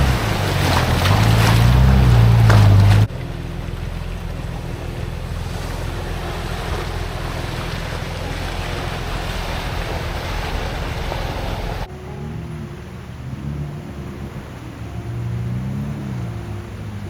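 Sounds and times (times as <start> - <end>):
rushing water: 0.0 - 17.0
vehicle engine running: 0.0 - 17.0.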